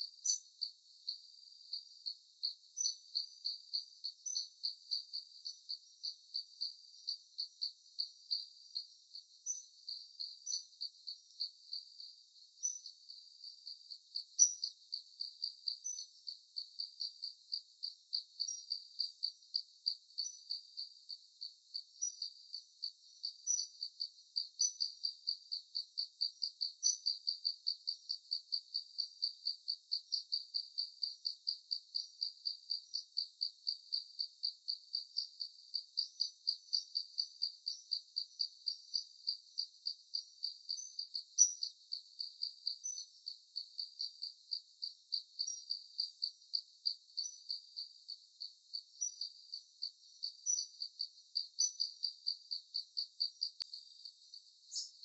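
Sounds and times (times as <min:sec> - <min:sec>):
crickets chirping: 0:00.0 - 0:55.0
higher cricket chirp: 0:00.0 - 0:55.0.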